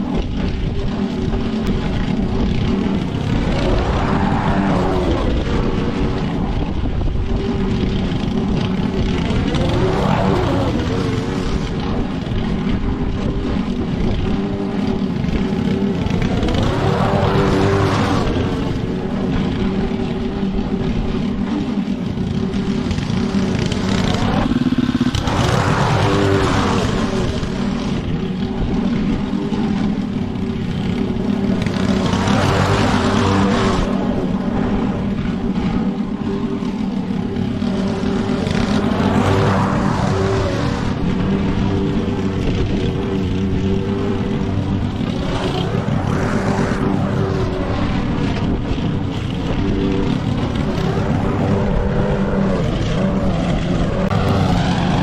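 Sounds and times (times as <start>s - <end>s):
lawn mower engine cutting grass: 0.0s - 55.0s.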